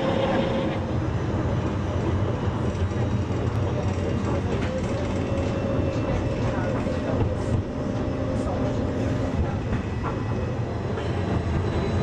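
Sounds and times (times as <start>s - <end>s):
tram rumbling on track: 0.0s - 12.0s.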